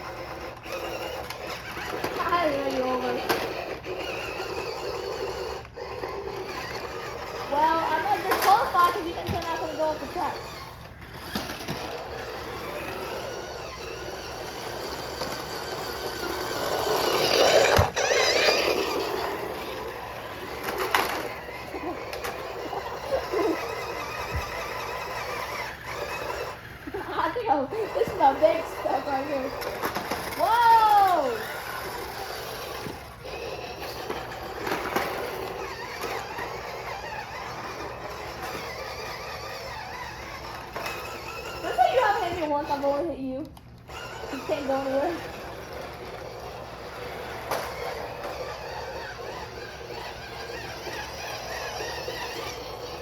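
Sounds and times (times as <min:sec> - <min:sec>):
electric motors whining: 0:00.0 - 0:53.0.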